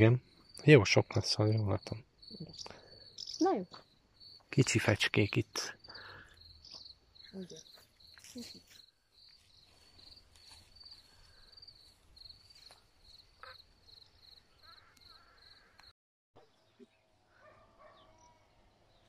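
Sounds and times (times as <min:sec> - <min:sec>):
cricket chirping: 0:00.0 - 0:15.9.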